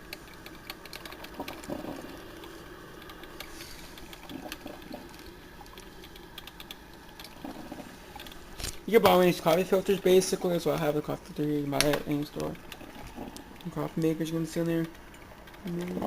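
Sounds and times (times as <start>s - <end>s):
coffee maker clicking and sputtering: 0.0s - 16.0s.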